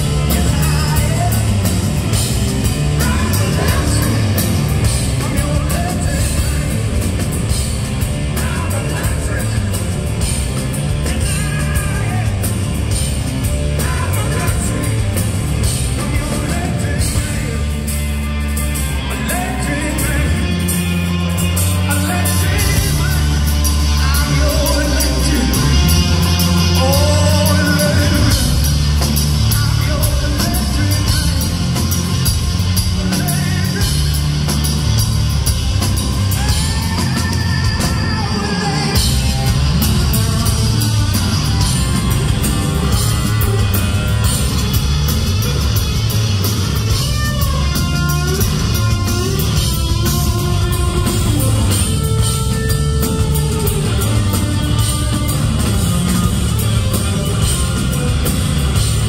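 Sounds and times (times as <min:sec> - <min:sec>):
distorted electric guitar: 0:00.0 - 0:59.0
drum kit: 0:00.0 - 0:59.0.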